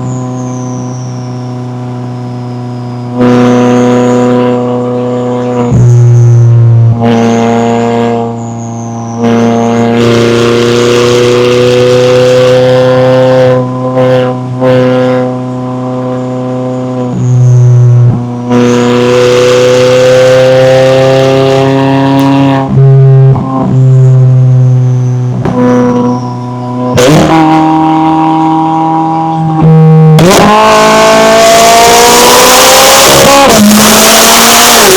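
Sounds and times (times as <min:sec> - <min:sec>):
car engine running under load: 0:00.0 - 0:34.9.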